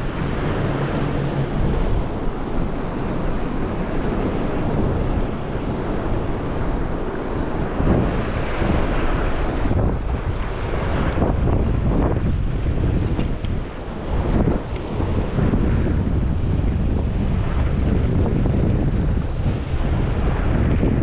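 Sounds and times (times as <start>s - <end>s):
ocean swell washing against rocks: 0.0s - 21.0s
wind rushing across microphone: 0.0s - 21.0s.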